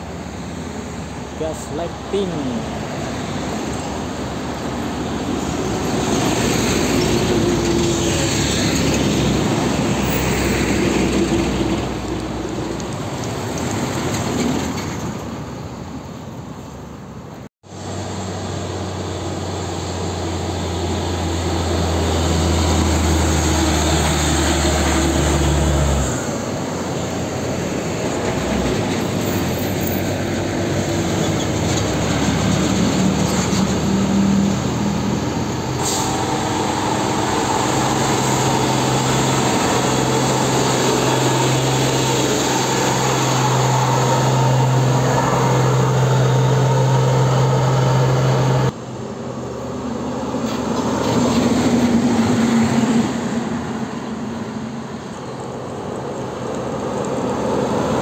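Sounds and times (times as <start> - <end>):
diesel trucks driving past: 0.0 - 58.0
truck engine hum close by: 0.0 - 58.0.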